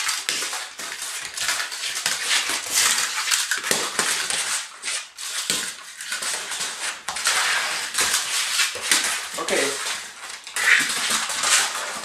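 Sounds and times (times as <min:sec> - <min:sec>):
scratchy clattering and scraping: 0:01.2 - 0:12.0.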